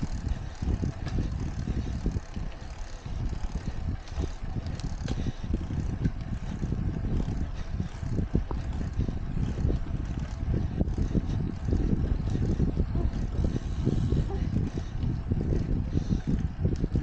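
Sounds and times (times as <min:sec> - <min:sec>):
bicycle ticks and rattles: 0:00.0 - 0:17.0
wind buffeting microphone: 0:00.0 - 0:17.0.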